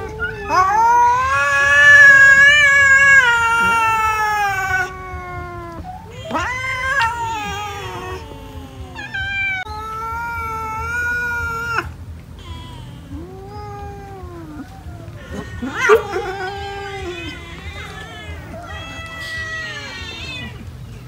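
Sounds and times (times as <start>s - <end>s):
cats meowing: 0.0s - 21.0s.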